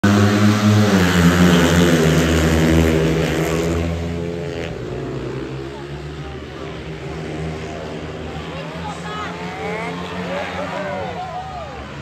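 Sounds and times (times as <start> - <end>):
motorcycle engines racing: 0.0 - 12.0.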